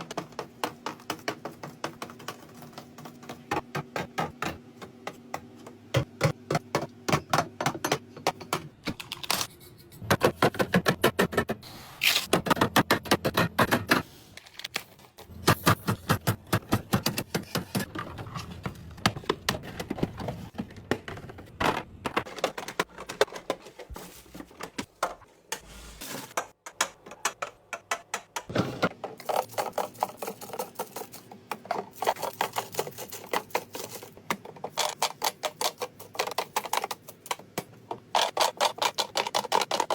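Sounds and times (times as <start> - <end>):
groceries and containers clacking: 0.0 - 11.5, 12.2 - 39.9.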